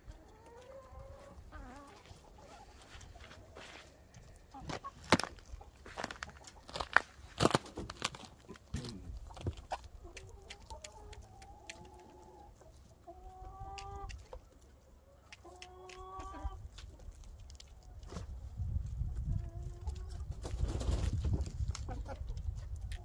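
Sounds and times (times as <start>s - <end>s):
chickens clucking and calling: 0.0s - 7.0s, 9.2s - 23.0s.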